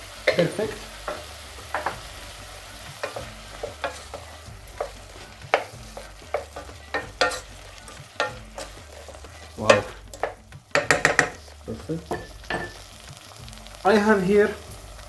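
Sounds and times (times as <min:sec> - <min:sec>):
spoon knocking and scraping pan: 0:00.0 - 0:13.8
onion and tomato sizzling in oil: 0:00.0 - 0:15.0.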